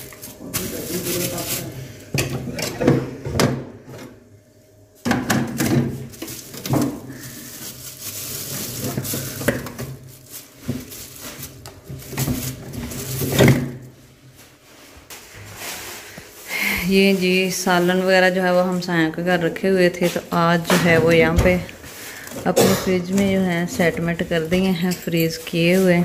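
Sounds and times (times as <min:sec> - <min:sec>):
plastic bags rustling: 0:00.0 - 0:02.6, 0:05.6 - 0:26.0.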